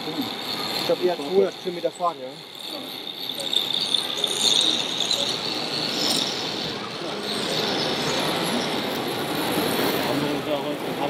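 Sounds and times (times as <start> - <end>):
crowd chatter: 0.0 - 11.0
steady high-pitched tone: 0.0 - 11.0.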